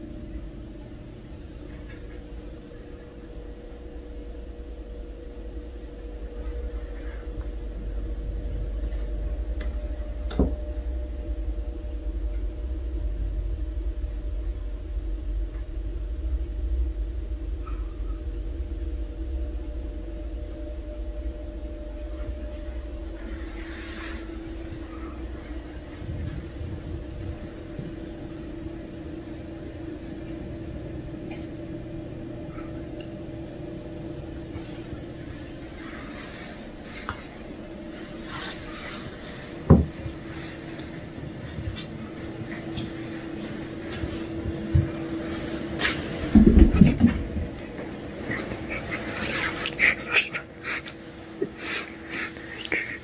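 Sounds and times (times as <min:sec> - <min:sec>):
low rumble with faint hum: 0:00.0 - 0:53.0.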